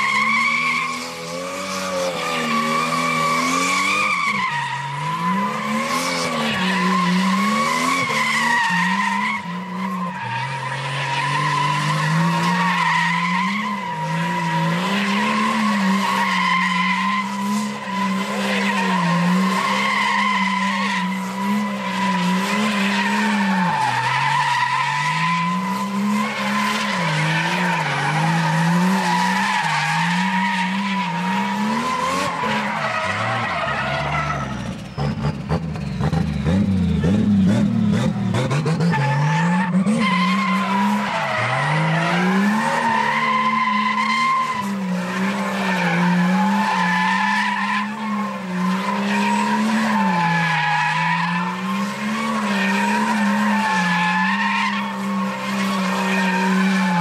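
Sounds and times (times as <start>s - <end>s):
tyres screeching: 0.0s - 37.3s, 38.0s - 57.0s
car engine revving: 0.0s - 57.0s.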